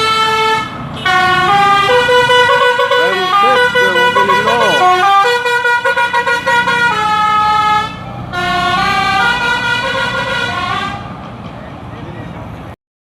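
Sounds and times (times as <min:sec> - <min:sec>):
multi-tone bus horn melody: 0:00.0 - 0:11.2
bus engine running: 0:00.0 - 0:12.8.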